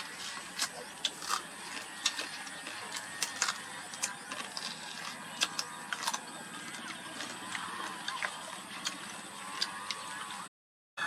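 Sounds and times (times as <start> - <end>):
crab shells cracking: 0.0 - 10.1.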